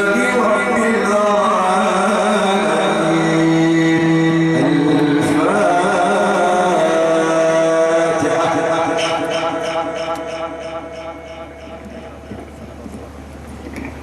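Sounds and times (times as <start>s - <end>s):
man reciting melodically: 0.0s - 13.2s.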